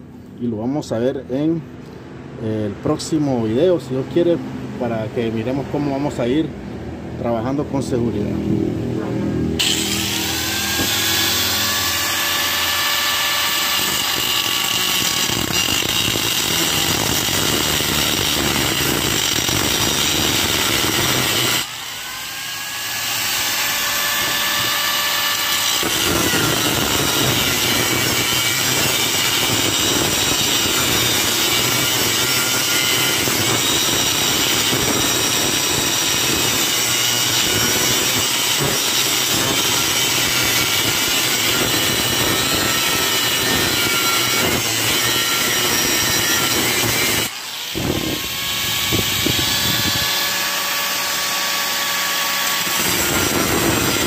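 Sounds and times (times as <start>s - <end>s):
angle grinder cutting metal: 9.4s - 54.0s.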